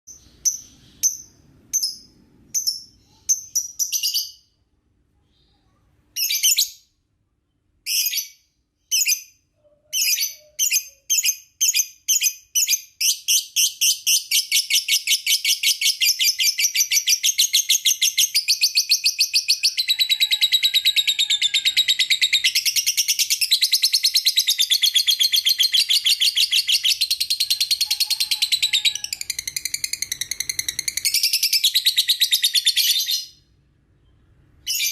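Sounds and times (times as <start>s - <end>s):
bird chirping and trilling: 0.1s - 4.6s, 5.2s - 7.0s, 7.8s - 34.9s.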